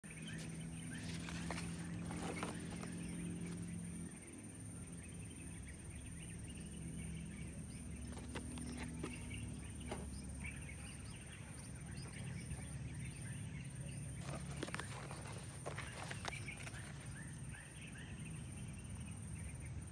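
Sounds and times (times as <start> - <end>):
birds chirping: 0.0 - 19.9
steady low hum: 0.0 - 19.9.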